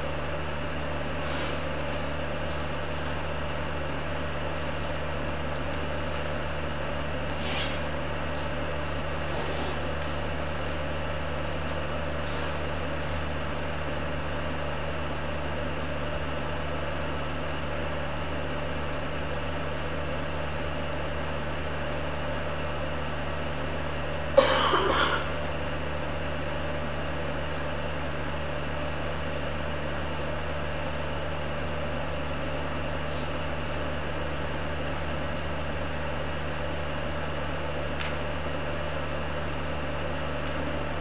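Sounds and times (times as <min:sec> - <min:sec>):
low hum and hiss: 0:00.0 - 0:41.0.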